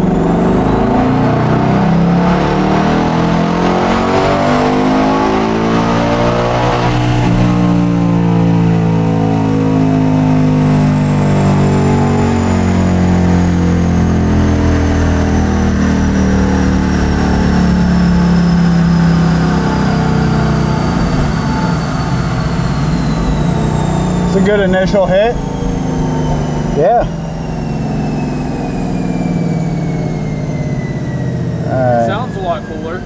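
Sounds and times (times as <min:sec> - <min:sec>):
car engine revving under load: 0:00.0 - 0:33.0
high whine: 0:00.0 - 0:33.0.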